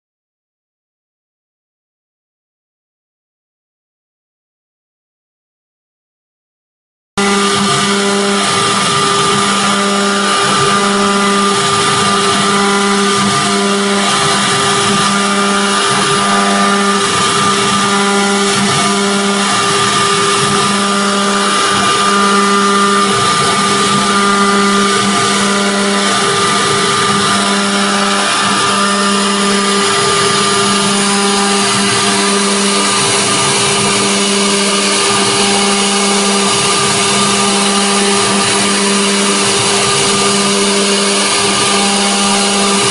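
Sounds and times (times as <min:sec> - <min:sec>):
router spindle whine: 0:07.2 - 0:42.9.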